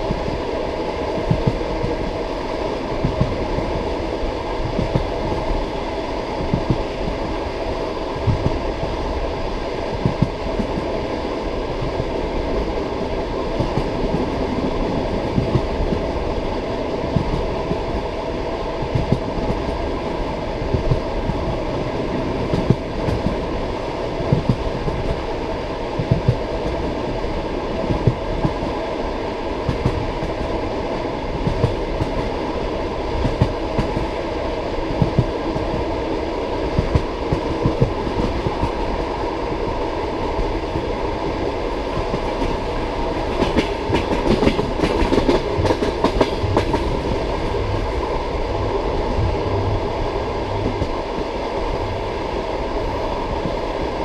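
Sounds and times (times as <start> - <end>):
clickety-clack over rail joints: 0.0 - 5.6, 6.3 - 8.6, 9.6 - 23.5, 24.2 - 27.2, 27.8 - 36.0, 36.6 - 48.2
train wheels rumbling on track: 0.0 - 54.0.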